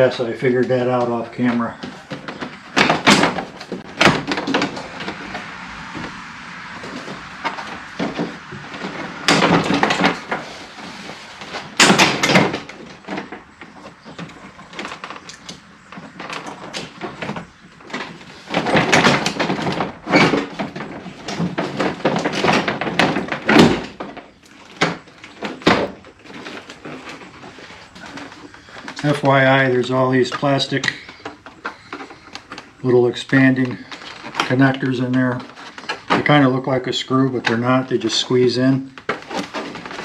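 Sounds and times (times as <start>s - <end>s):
plastic panel scraping and rustling: 0.0s - 40.0s.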